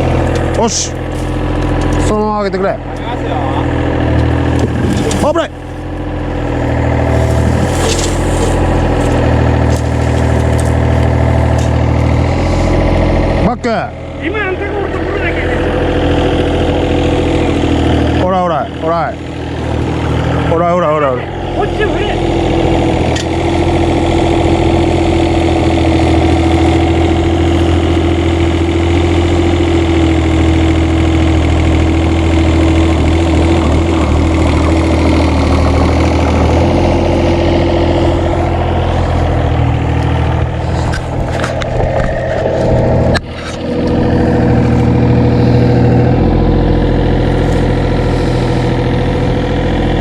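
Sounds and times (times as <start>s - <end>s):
construction machine engine running: 0.0s - 50.0s.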